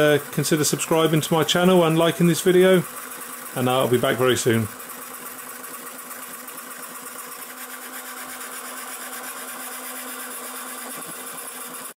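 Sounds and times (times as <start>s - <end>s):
small motor with grinding gearbox: 0.0s - 12.0s.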